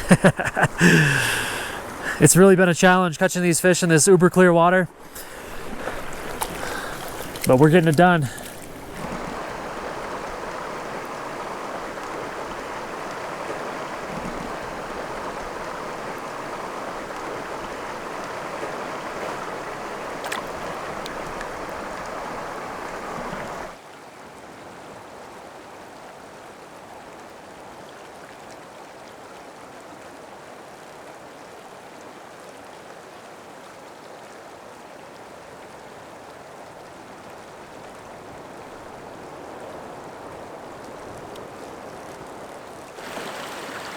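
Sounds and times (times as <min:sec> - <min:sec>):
creek water rushing: 0:00.0 - 0:24.3, 0:25.2 - 0:43.9.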